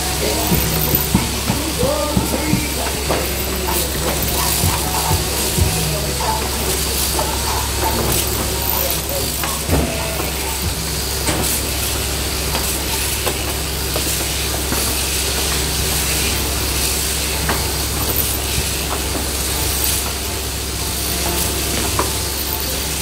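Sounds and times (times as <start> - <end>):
shearing handpieces running: 0.0 - 23.0.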